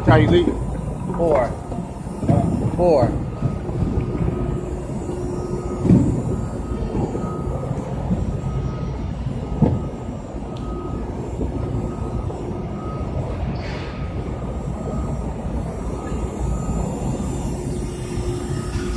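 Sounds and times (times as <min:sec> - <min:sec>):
faint high beep: 0:00.0 - 0:18.9
warehouse low rumble: 0:00.0 - 0:18.9.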